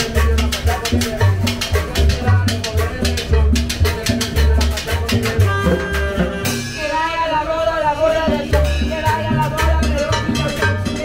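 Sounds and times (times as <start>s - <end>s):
latin dance band playing: 0.0s - 11.0s
upright bass notes: 0.0s - 11.0s.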